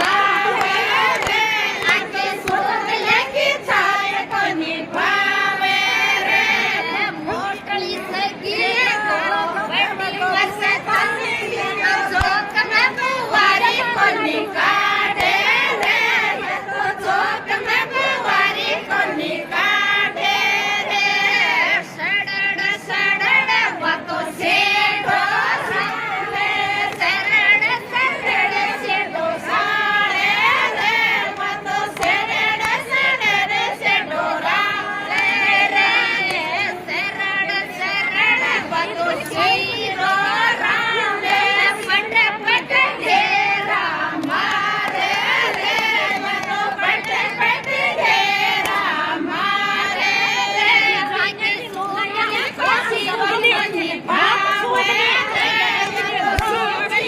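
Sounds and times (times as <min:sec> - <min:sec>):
women singing in chorus: 0:00.0 - 0:57.0.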